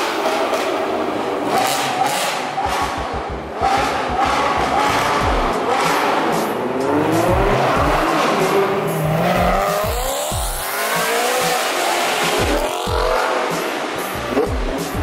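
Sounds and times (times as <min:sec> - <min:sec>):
sports car engines revving: 0:00.0 - 0:15.0
background music with steady beat: 0:02.1 - 0:15.0.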